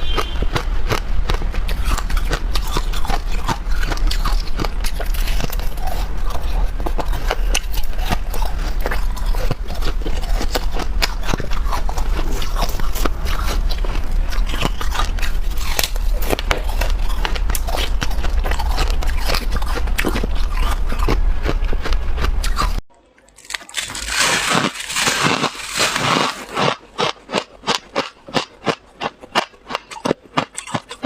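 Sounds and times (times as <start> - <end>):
crunching of frost being chewed: 0.0 - 31.0.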